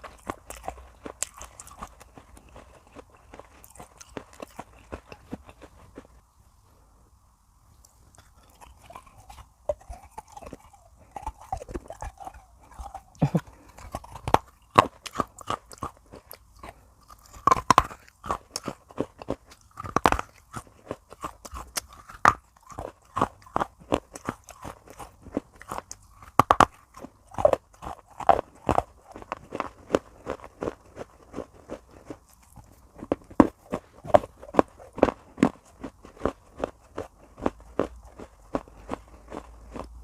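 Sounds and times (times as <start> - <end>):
crunchy chewing: 0.0 - 6.3, 7.8 - 40.0.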